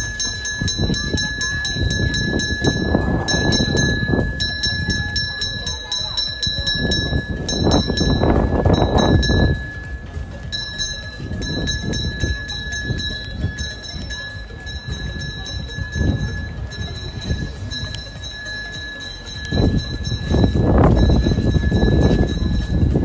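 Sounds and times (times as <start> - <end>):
low rumbling on microphone: 0.0 - 23.0
thin steady high tone: 0.0 - 23.0.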